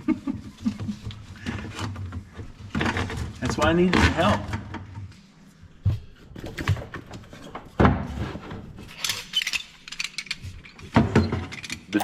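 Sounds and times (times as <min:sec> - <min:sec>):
knocks and thumps of handling: 0:00.3 - 0:05.1, 0:05.8 - 0:12.0.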